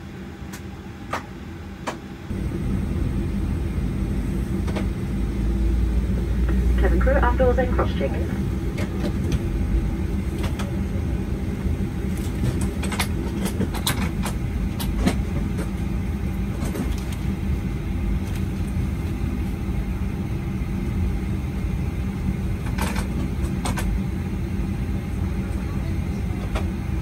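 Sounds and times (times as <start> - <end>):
jet engine cabin rumble: 0.0 - 27.0.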